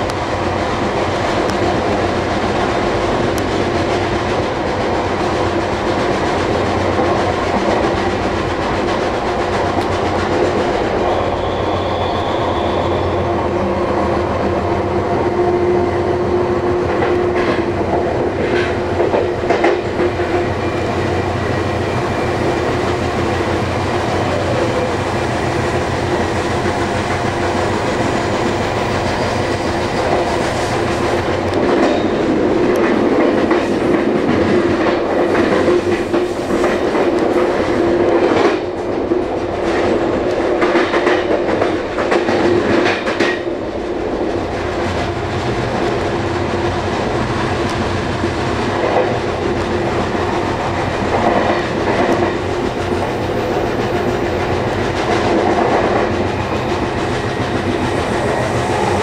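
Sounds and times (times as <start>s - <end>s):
train wheel clacks: 0.0s - 59.0s
train wheels rumbling on rail: 0.0s - 59.0s.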